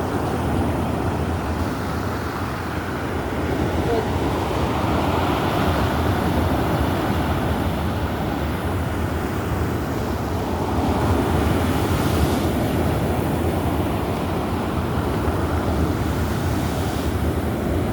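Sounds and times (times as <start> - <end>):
waves rumbling and breaking: 0.0 - 17.9.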